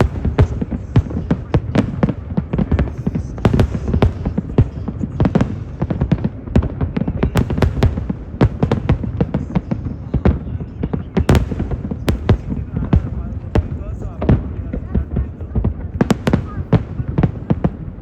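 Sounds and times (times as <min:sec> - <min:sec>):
fireworks cracking: 0:00.0 - 0:18.0.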